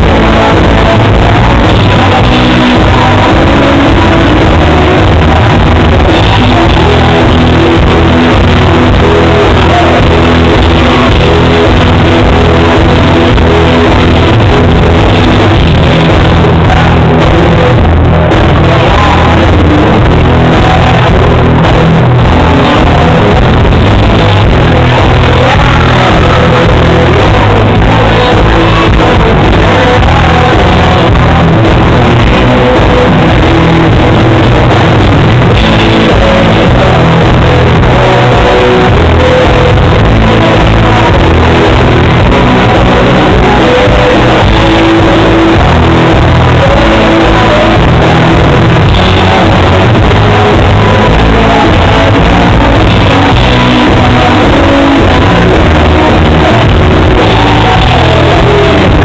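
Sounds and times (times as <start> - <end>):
country-rock band music: 0.0 - 59.0.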